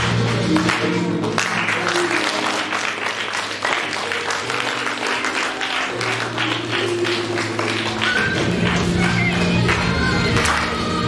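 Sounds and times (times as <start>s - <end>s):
music with steady beat: 0.0s - 3.0s, 3.7s - 11.0s
audience clapping: 0.0s - 11.0s.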